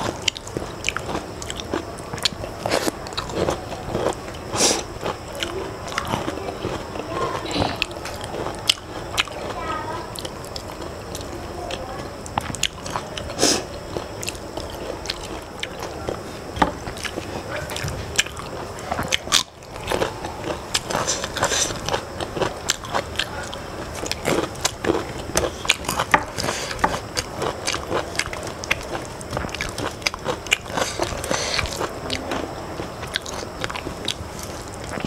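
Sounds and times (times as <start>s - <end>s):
chewing with clicks: 0.0s - 9.6s, 10.2s - 16.2s, 16.8s - 35.0s.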